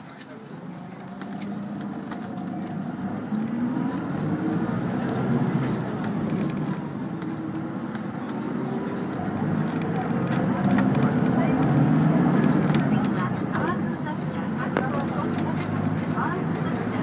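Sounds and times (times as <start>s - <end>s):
bus engine: 0.0s - 17.0s.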